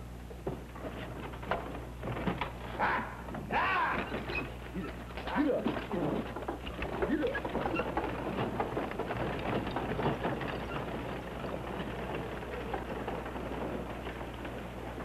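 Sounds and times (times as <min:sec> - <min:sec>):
wooden wagon wheels rolling: 0:00.0 - 0:15.0
horse hooves clopping: 0:00.3 - 0:15.0.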